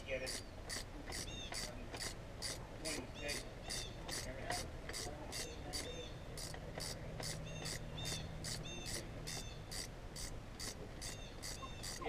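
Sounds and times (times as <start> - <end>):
ratchet wrench clicking: 0.2 - 12.0.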